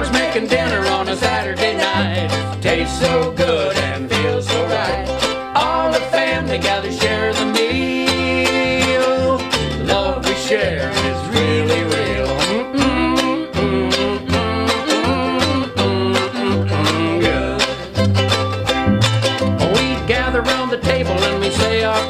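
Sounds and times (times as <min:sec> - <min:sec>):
plucked double bass: 0:00.0 - 0:22.0
ukulele strumming: 0:00.0 - 0:22.0.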